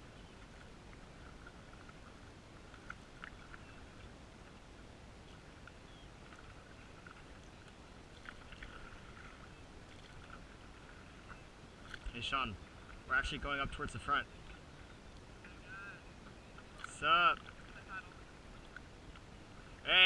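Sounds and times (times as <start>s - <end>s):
paddle splashes and drips: 0.0s - 20.0s.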